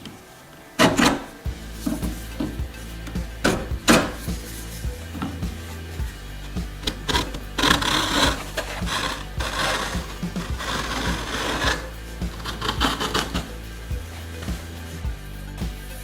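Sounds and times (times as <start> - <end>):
background music with beat: 0.8 - 16.0
rasping rubbing noise: 1.0 - 16.0.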